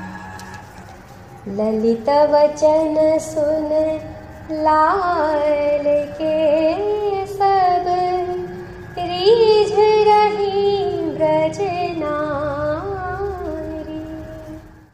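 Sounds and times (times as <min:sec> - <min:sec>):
faint backing music: 0:00.0 - 0:14.9
high voice singing devotional song: 0:00.0 - 0:14.9.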